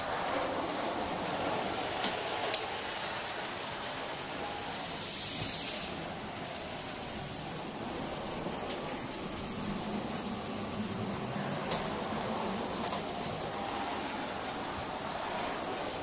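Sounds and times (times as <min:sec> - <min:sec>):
model train running on track: 0:00.0 - 0:16.0.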